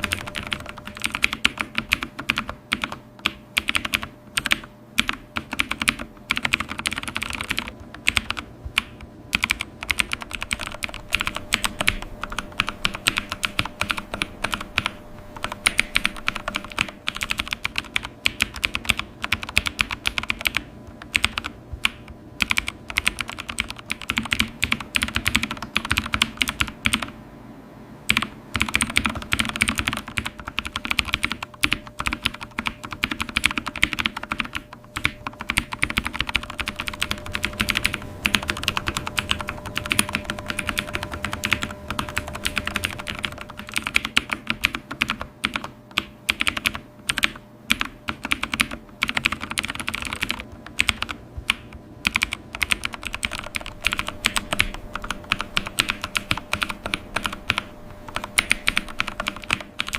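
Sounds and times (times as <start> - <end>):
fast keyboard typing: 0.0 - 27.2, 28.1 - 59.9
faint steady hum: 0.0 - 59.9.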